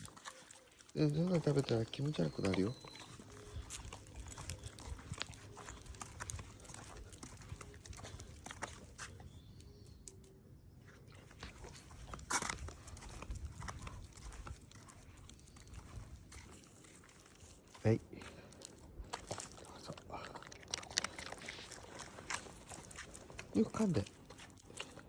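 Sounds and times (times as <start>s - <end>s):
small clicks and rustles: 0.0s - 25.0s.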